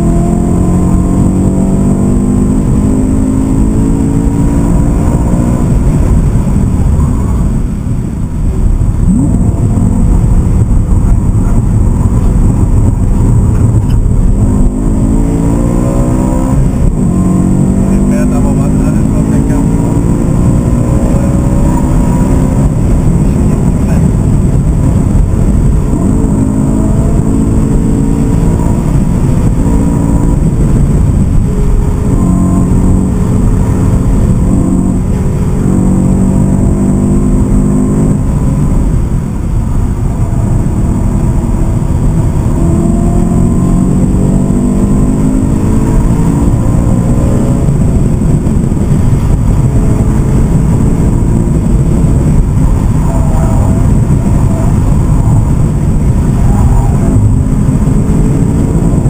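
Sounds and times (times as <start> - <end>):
car engine accelerating: 0.0 - 59.0
road and wind noise: 0.0 - 59.0.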